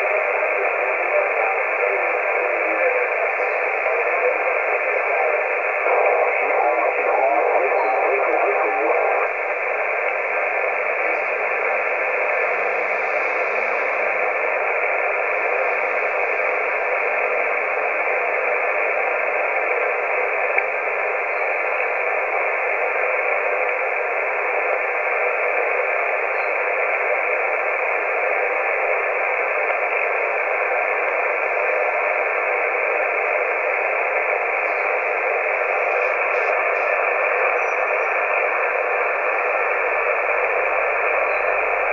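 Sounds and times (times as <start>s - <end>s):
radio static hiss: 0.0s - 41.9s.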